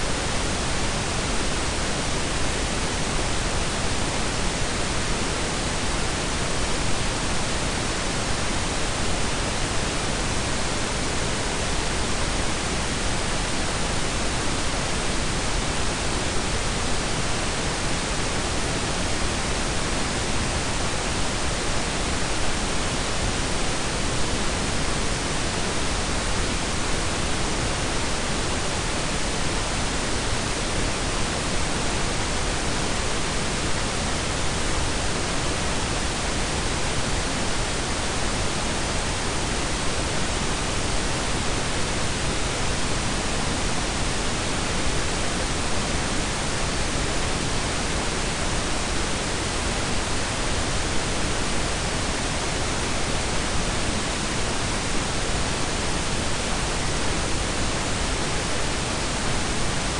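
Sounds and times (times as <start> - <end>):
pink and brown noise: 0.0 - 59.9.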